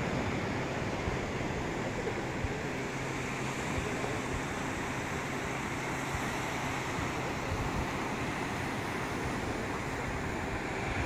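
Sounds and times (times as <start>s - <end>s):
surf breaking on beach: 0.0s - 11.0s
wind on microphone: 0.0s - 11.0s.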